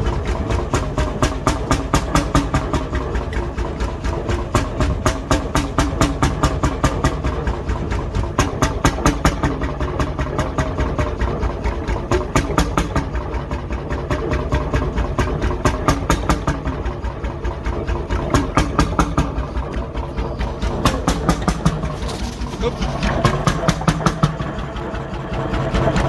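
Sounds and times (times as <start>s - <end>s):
two-stroke engine pulsing: 0.0s - 26.0s.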